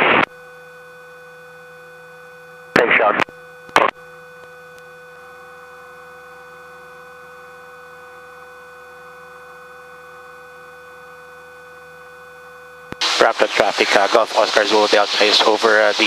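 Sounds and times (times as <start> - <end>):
light aircraft engine hum: 0.3 - 16.0.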